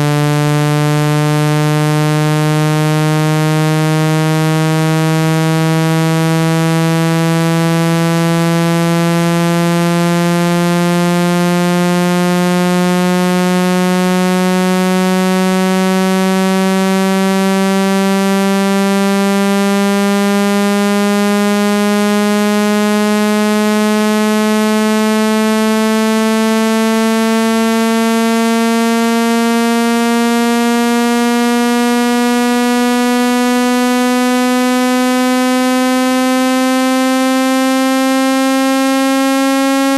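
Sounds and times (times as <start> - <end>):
buzzy electronic tone rising in pitch: 0.0 - 39.9.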